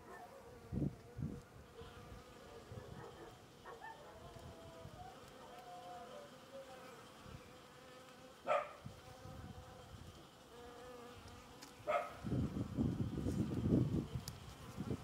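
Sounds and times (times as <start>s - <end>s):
honeybees buzzing: 0.3s - 15.0s.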